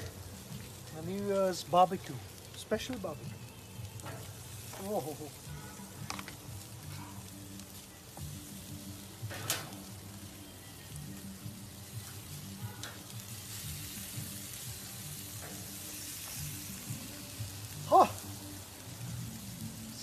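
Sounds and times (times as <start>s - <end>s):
chicken sizzling on grill: 0.0s - 20.0s.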